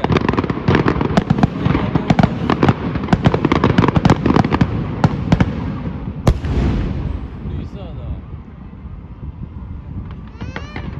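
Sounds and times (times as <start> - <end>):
continuous low rumble: 0.0 - 10.9
fireworks bangs and crackles: 0.0 - 10.9.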